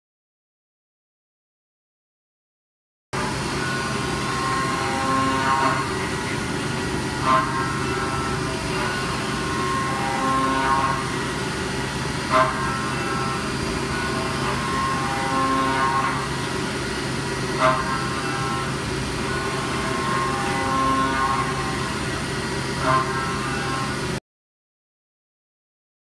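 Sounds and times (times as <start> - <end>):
milling machine spindle hum: 3.2 - 24.2
pitched metal cutting tone: 3.2 - 24.2.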